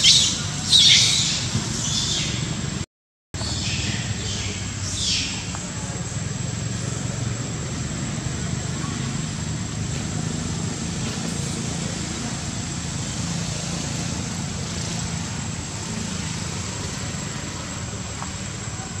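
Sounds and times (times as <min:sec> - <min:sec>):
low engine-like hum: 0:03.4 - 0:19.0.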